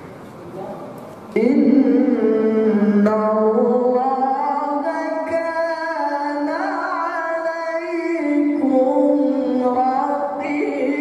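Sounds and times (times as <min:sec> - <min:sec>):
person chanting melodically: 0:01.3 - 0:11.0.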